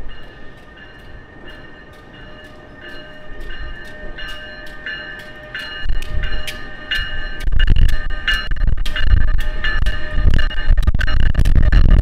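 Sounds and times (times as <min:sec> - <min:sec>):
locomotive bell ringing: 0:00.0 - 0:11.4
train rumble: 0:00.0 - 0:12.0.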